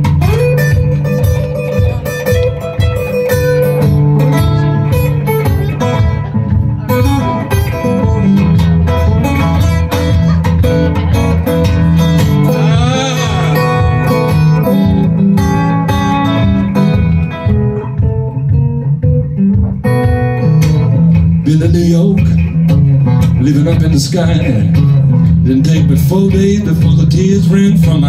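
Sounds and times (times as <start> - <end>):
acoustic guitar blues rhythm: 0.0 - 28.0.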